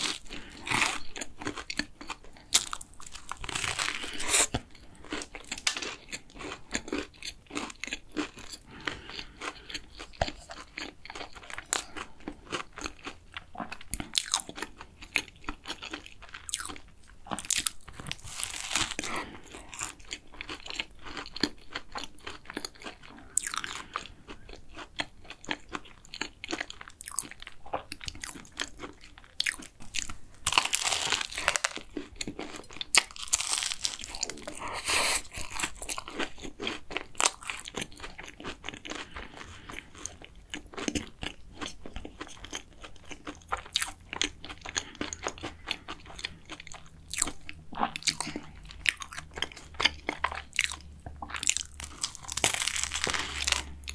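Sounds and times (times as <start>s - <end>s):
crunchy pastry chewing: 0.0s - 53.9s.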